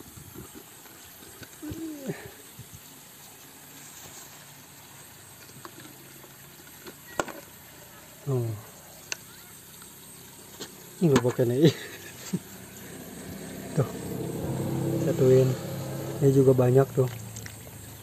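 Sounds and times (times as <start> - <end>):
water splashing and trickling: 0.0 - 18.0.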